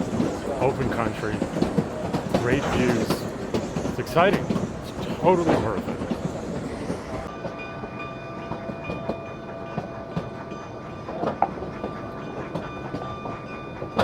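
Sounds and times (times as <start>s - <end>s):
train cars rattling rumble: 0.0s - 14.0s.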